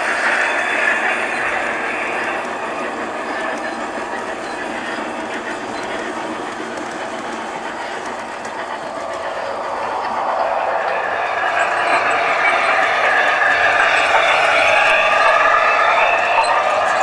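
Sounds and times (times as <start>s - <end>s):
model train rumbling on track: 0.0s - 17.0s
wheels clicking over rail joints: 0.0s - 17.0s.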